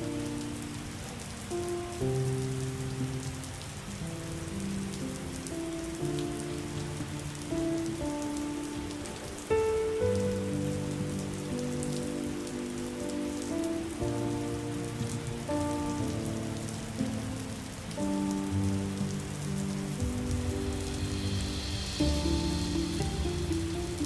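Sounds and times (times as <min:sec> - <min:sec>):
slow music of held chords: 0:00.0 - 0:24.0
steady rain: 0:00.0 - 0:24.0.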